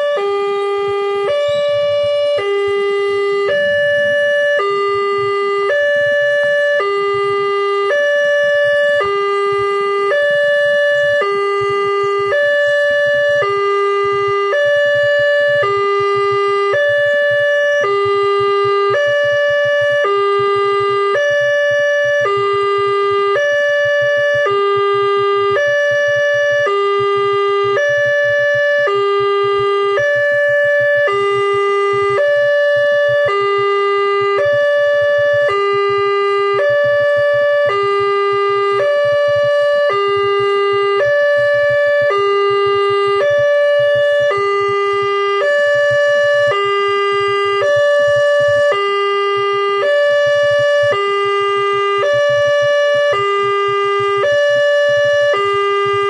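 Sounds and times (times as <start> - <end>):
level crossing two-tone alarm: 0.0 - 56.0.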